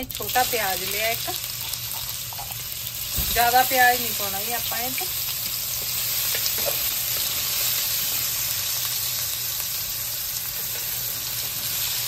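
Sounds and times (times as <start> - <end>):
onion sizzling in a pan: 0.0 - 12.0.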